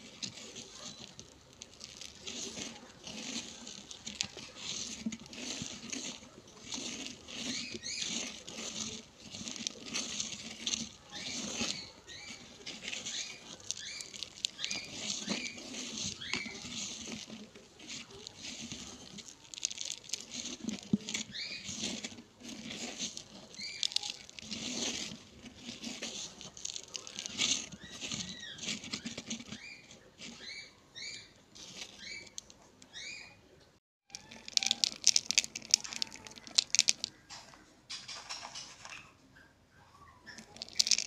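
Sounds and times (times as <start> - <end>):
gritty powder crunching in bowl: 0.0 - 33.2, 34.1 - 37.3, 40.3 - 41.0.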